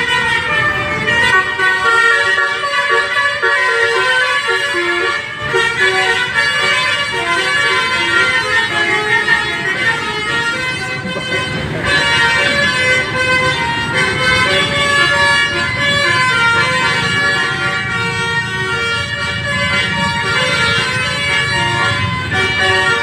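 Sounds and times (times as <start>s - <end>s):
bus engine running: 0.0s - 23.0s
multi-tone air horns playing tune: 0.0s - 23.0s.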